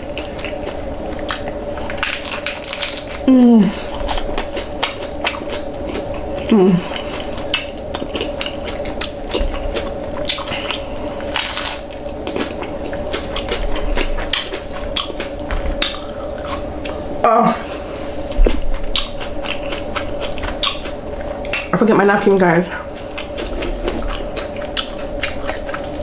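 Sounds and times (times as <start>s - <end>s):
chewing crunchy tacos: 0.0s - 17.2s, 18.2s - 21.8s, 22.8s - 26.0s
faint steady hum: 0.0s - 26.0s.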